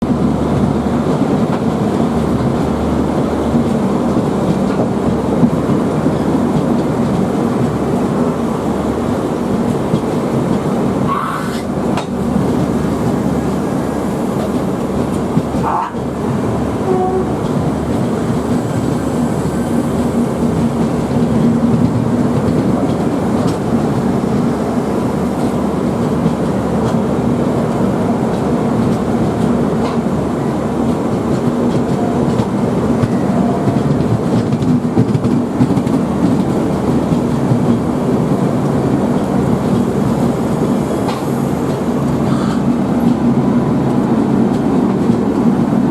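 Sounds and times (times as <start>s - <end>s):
train wheels clattering over rails: 0.0s - 45.9s.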